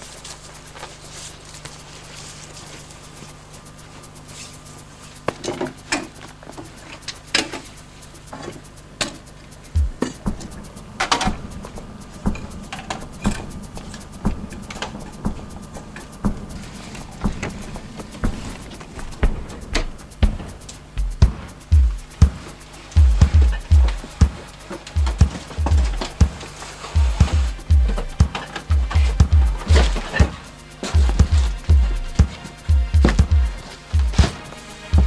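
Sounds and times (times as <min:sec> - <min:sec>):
faint steady hum: 0:00.0 - 0:35.0
slow steady drum beat: 0:00.0 - 0:35.0.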